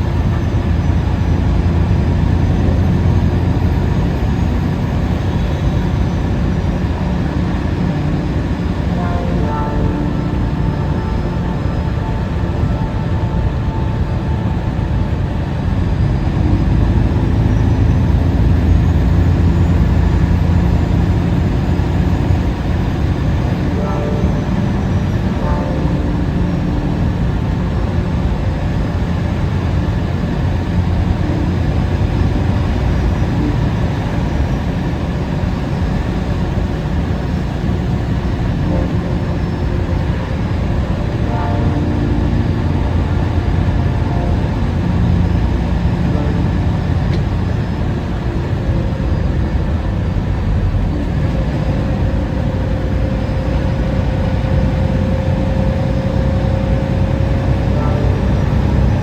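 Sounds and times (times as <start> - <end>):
faint steady whine: 0.0 - 59.0
truck engine and road rumble: 0.0 - 59.0.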